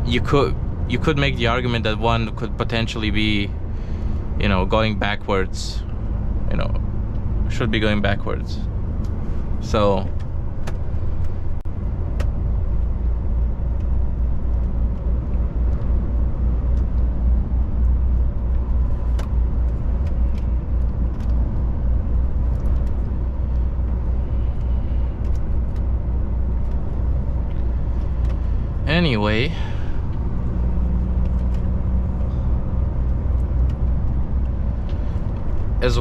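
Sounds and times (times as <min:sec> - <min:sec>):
truck diesel engine drone: 0:00.0 - 0:36.0.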